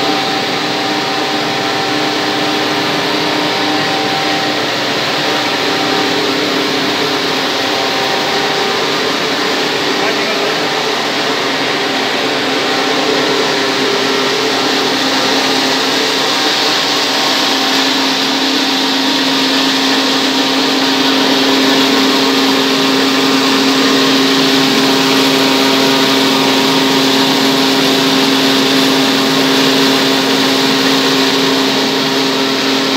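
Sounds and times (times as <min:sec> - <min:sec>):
machine hum: 0:00.0 - 0:32.9.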